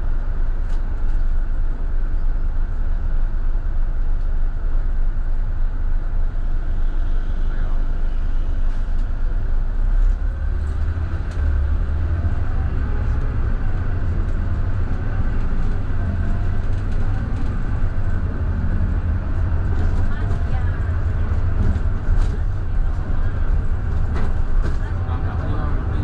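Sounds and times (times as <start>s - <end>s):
bus diesel engine drone: 0.0s - 26.0s
road noise: 0.0s - 26.0s.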